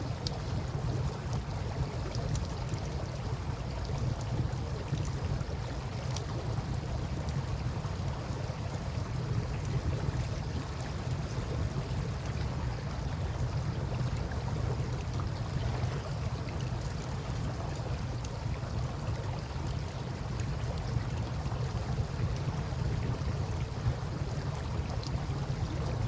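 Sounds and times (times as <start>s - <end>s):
campfire crackles: 0.0s - 26.0s.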